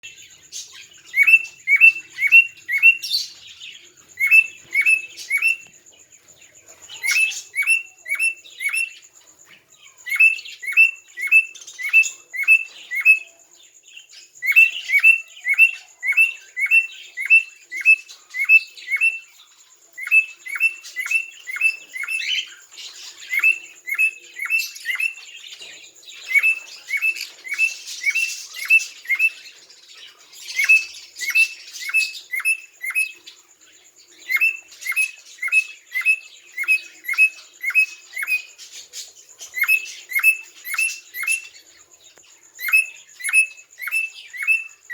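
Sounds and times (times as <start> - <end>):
bird chirping: 0.0 - 44.9.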